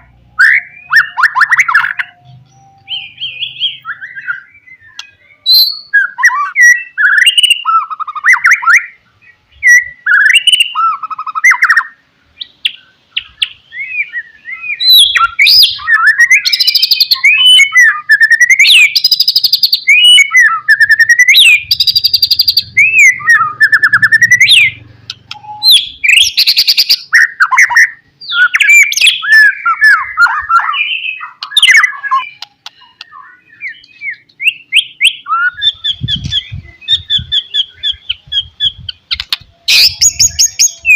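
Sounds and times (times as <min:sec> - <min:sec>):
songbird whistling and trilling: 0:00.3 - 0:40.9.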